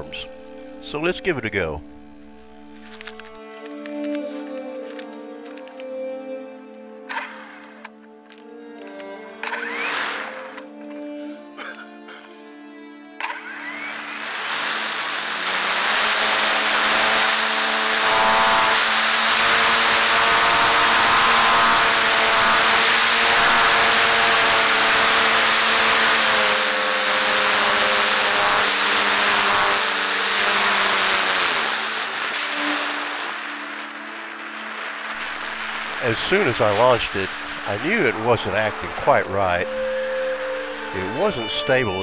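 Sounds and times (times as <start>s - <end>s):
electric motor and propeller whine: 0.0s - 1.0s, 1.8s - 12.2s, 13.1s - 42.0s.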